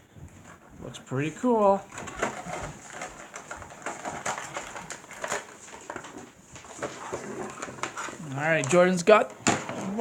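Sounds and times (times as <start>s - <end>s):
plastic and cardboard crinkling: 0.8s - 10.0s.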